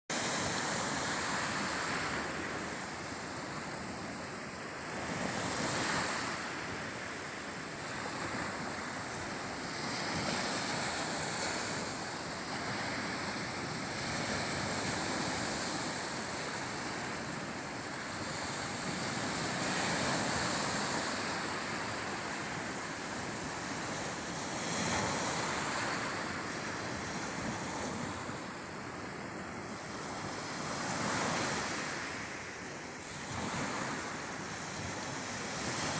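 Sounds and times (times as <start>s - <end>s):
waves washing ashore: 0.1s - 35.9s.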